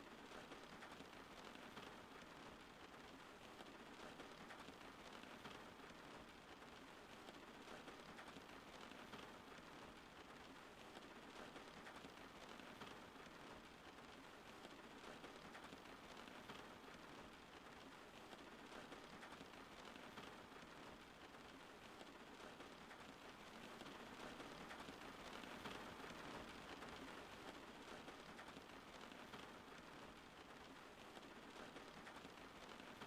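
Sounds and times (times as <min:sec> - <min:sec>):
faint rain falling: 0:00.0 - 0:33.0.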